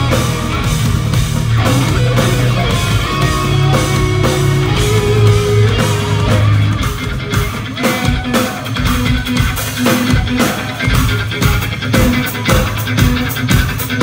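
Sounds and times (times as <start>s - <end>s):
drums and cymbals: 0.0s - 14.0s
electric guitars: 0.0s - 14.0s.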